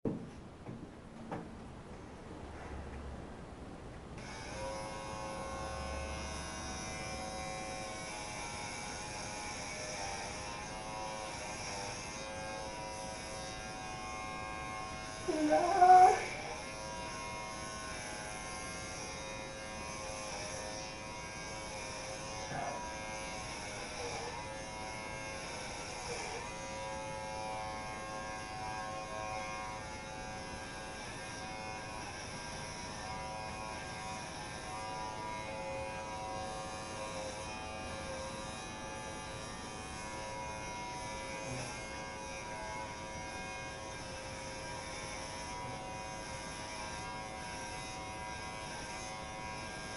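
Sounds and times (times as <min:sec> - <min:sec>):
electric hair clippers buzzing: 0:04.2 - 0:49.9.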